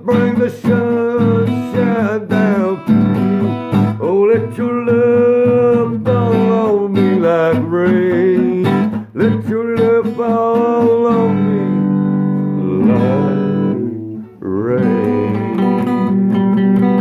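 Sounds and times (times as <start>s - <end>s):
person singing long notes: 0.0s - 16.6s
acoustic guitar strumming: 0.0s - 17.0s.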